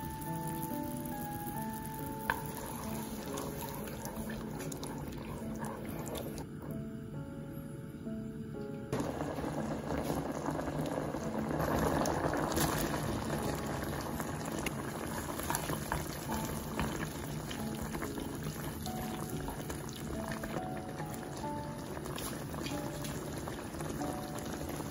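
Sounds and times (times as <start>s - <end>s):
cream sauce bubbling in a pan: 0.0s - 6.5s, 9.0s - 24.9s.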